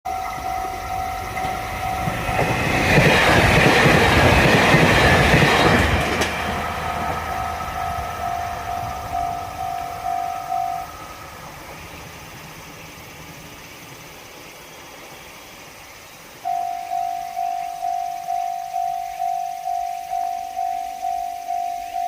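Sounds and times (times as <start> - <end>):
level-crossing warning bell: 0.0 - 13.2, 16.4 - 22.0
train rushing past: 0.1 - 20.2.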